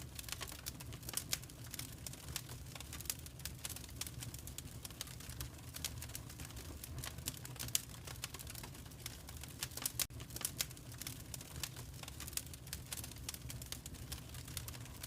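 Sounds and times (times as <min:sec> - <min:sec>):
fire pops and snaps: 0:00.0 - 0:15.0
low fire rumble: 0:00.0 - 0:15.0.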